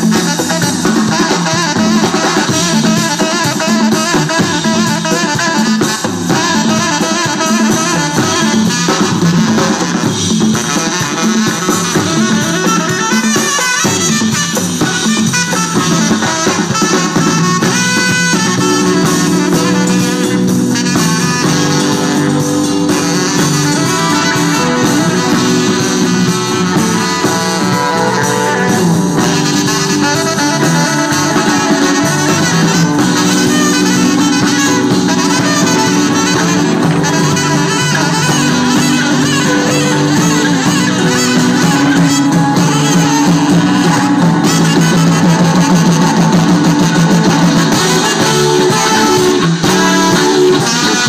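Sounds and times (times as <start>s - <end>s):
drum kit: 0.0s - 51.0s
electric bass: 0.0s - 51.0s
electric guitar: 0.0s - 51.0s
saxophone melody: 0.0s - 51.0s.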